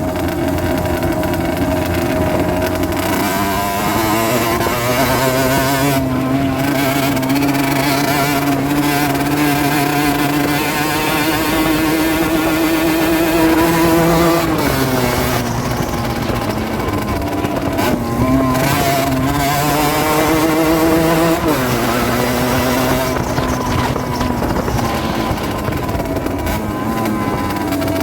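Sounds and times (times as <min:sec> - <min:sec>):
small two-stroke engine running: 0:00.0 - 0:28.0.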